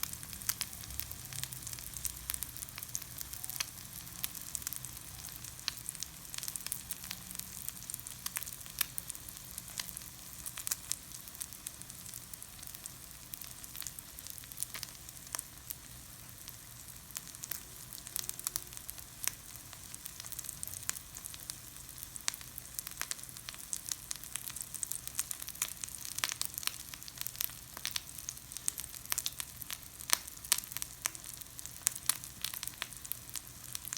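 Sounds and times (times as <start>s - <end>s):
food sizzling in hot oil: 0.0s - 33.9s.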